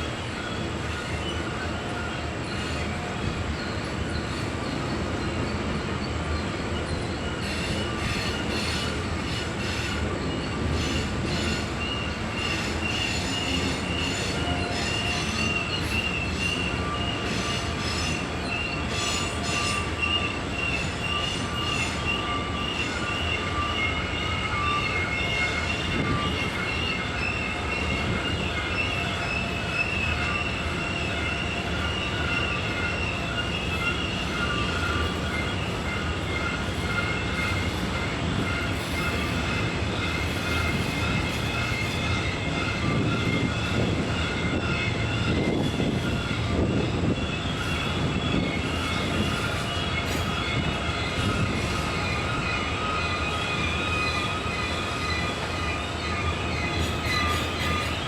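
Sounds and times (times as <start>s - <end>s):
rumble of freight cars: 0.0s - 58.0s
train wheels squealing on rail: 0.0s - 58.0s
rapid clicks of wheels on rail joints: 0.3s - 58.0s.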